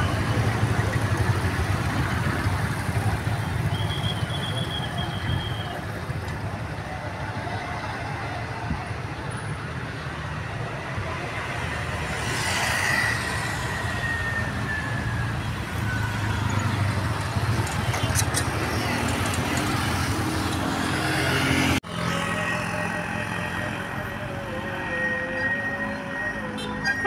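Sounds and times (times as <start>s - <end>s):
bus engines and road traffic: 0.0s - 27.0s.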